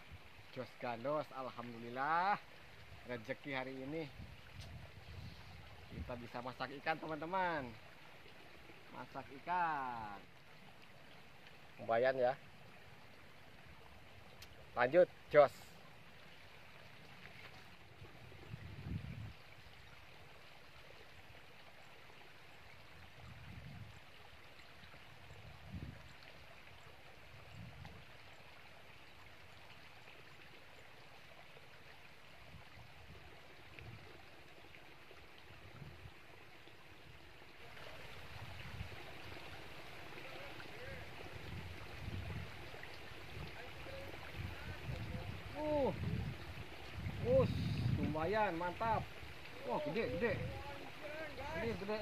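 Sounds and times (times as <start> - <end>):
river water flowing: 0.0 - 52.0.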